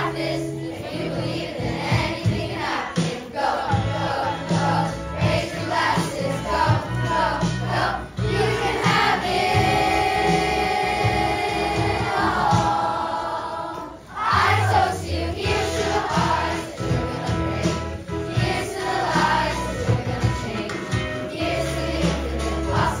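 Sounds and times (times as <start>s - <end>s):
children's choir singing: 0.0s - 23.0s.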